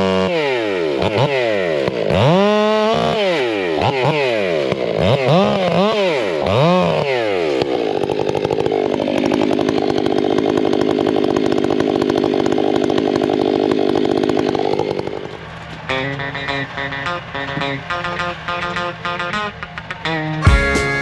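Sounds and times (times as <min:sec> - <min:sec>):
two-stroke chainsaw revving: 0:00.0 - 0:21.0.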